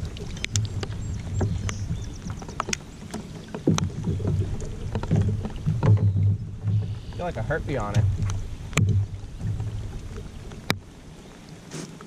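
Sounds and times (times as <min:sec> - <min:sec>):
knocks and clicks on plastic kayak: 0:00.0 - 0:10.8.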